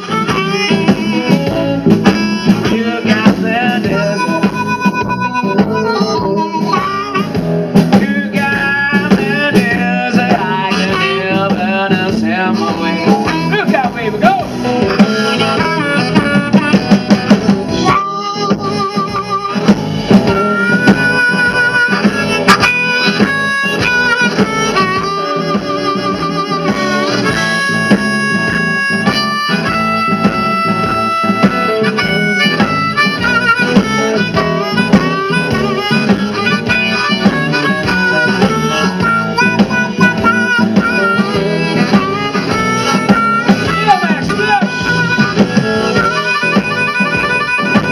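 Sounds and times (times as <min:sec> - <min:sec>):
amplified blues harmonica: 0:00.0 - 0:47.9
bass guitar: 0:00.0 - 0:47.9
drums: 0:00.0 - 0:47.9
electric guitar: 0:00.0 - 0:47.9.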